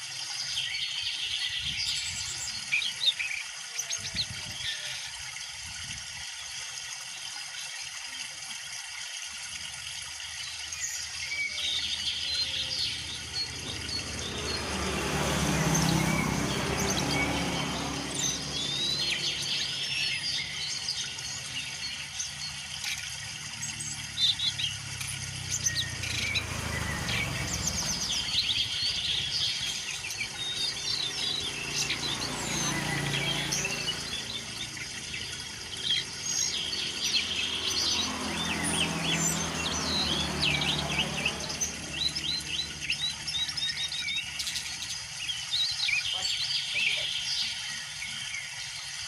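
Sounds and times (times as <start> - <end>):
songbirds chirping and whistling: 0.0 - 5.4, 10.4 - 49.0.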